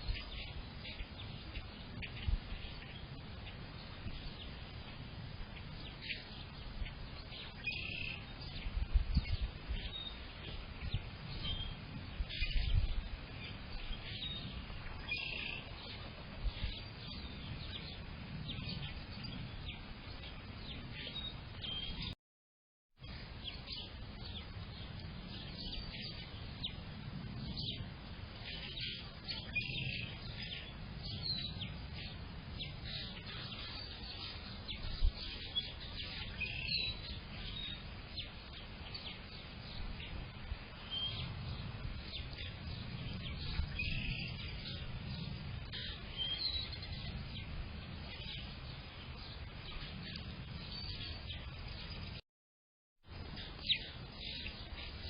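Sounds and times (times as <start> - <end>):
low steady rumble: 0.0 - 22.1, 23.1 - 52.2
songbirds chirping: 0.0 - 22.2, 23.0 - 52.2, 53.1 - 55.0.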